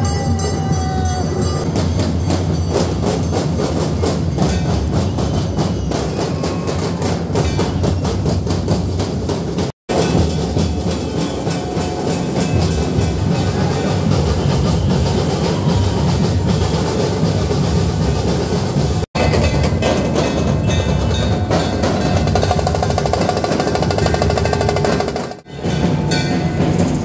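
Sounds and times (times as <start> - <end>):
fast procession drumming: 0.0 - 27.0.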